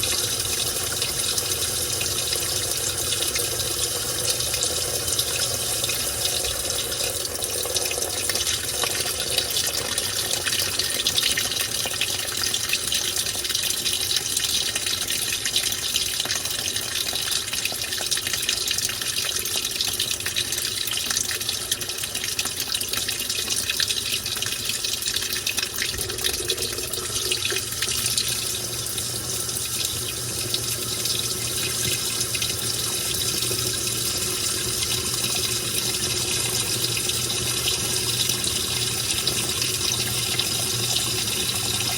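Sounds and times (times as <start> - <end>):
washing machine water rushing: 0.0 - 41.9.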